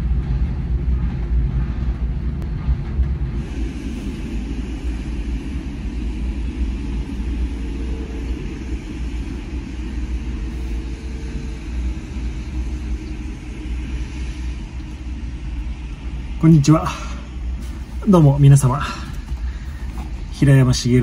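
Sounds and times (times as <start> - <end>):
low rumble inside van: 0.0 - 21.0.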